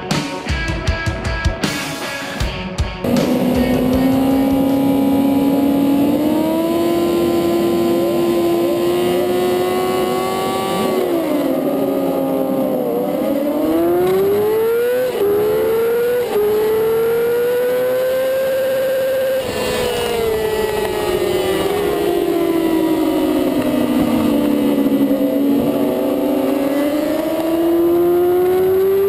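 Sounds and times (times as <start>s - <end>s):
motorcycle engine revving: 3.0s - 29.0s
other motorcycle engines running: 3.0s - 29.0s
quick gear upshifts: 3.0s - 29.0s.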